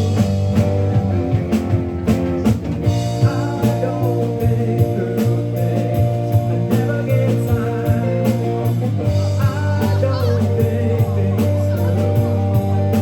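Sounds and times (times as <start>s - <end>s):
bass line: 0.0s - 13.0s
drum kit hits: 0.0s - 13.0s
electric guitars: 0.0s - 13.0s.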